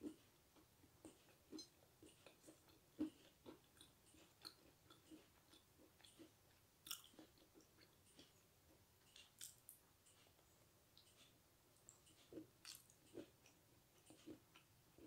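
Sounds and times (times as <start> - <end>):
chewing with mouth clicks: 0.0 - 8.4, 9.0 - 15.0.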